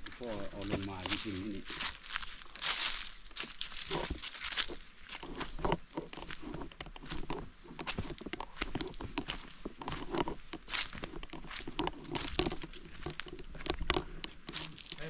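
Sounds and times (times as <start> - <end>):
footsteps crunching dry leaves: 0.0 - 13.6, 14.5 - 15.0.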